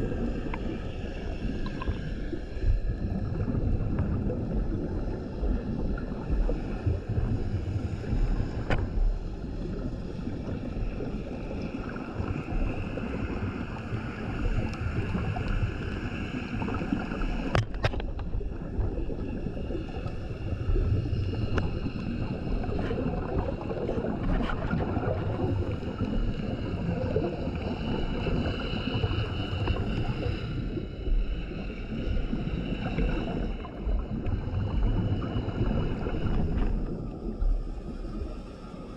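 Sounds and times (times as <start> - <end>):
underwater bubbles gurgling: 0.0 - 38.9.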